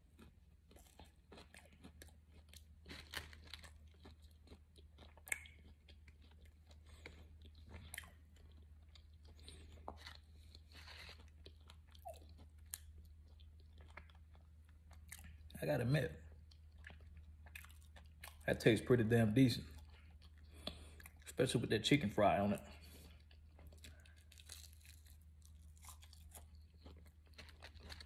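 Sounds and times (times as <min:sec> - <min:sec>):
faint chewing: 0:00.0 - 0:15.6, 0:16.2 - 0:21.5, 0:22.5 - 0:28.0.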